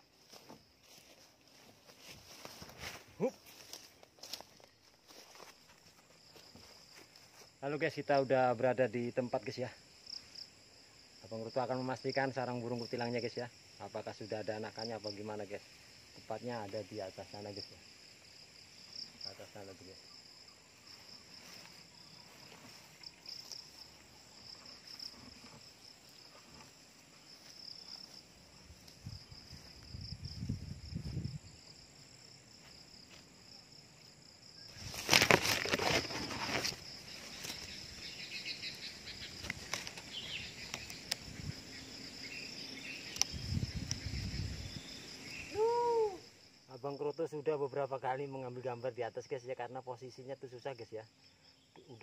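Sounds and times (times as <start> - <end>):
insect chirring: 0.0 - 52.0.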